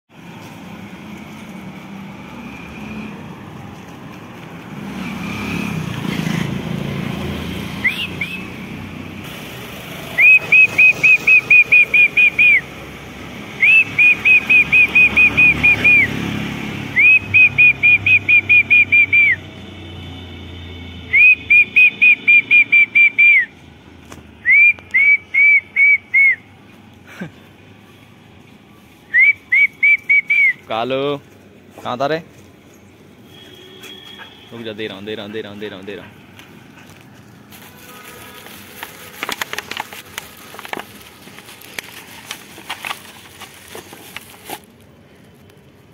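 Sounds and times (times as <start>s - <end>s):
low traffic rumble: 0.1s - 45.9s.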